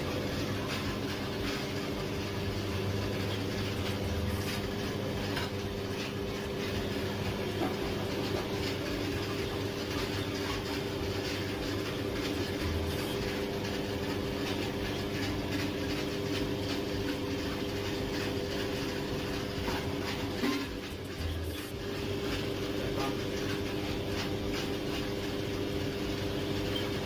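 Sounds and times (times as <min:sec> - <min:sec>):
machine hum with even tones: 0:00.0 - 0:27.0.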